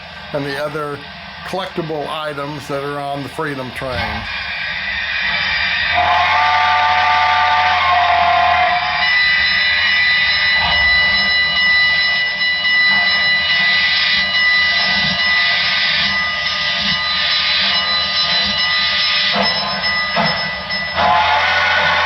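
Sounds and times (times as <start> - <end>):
steam locomotive hiss: 0.0 - 12.0, 13.0 - 22.0
high steady whine: 0.0 - 22.0.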